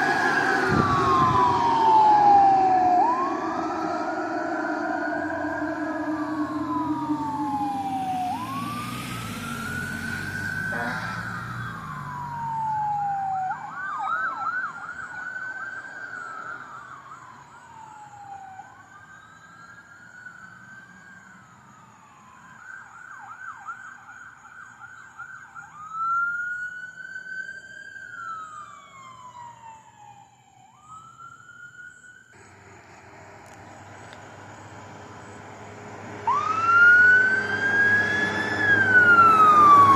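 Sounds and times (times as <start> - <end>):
emergency sirens wailing and yelping: 0.0 - 39.9.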